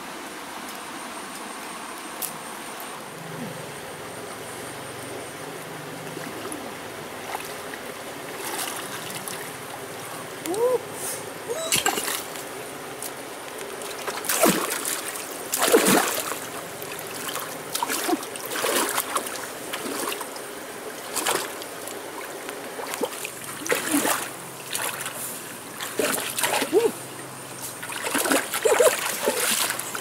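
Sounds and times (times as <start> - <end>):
water splashing and sloshing: 4.2 - 10.6, 11.3 - 30.0.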